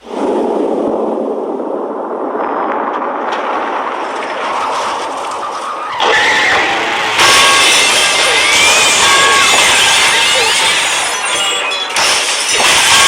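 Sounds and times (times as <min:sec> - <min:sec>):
cartoon car rushing rumble: 0:00.1 - 0:11.4.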